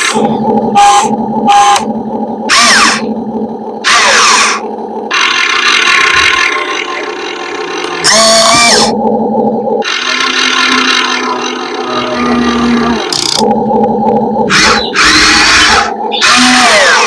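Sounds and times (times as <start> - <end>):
higher motor whirring: 0.0 - 17.0
steady motor hum: 0.0 - 17.0.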